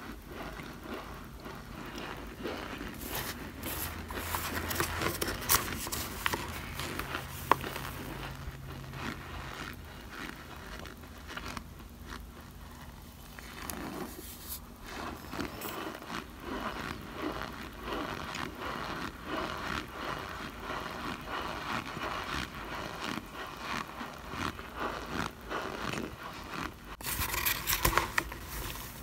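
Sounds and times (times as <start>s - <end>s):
metal spoon scraping cornstarch: 0.4s - 9.8s, 13.4s - 29.0s.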